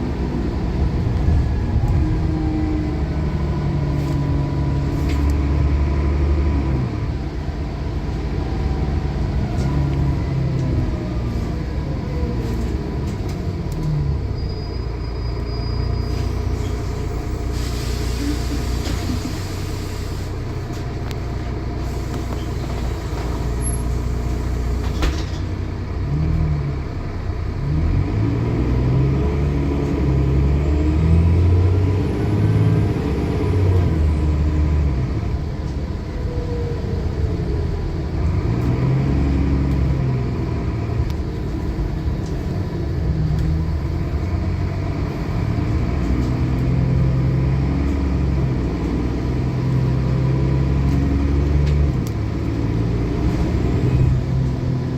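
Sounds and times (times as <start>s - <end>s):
diesel bus engine: 0.0s - 54.9s.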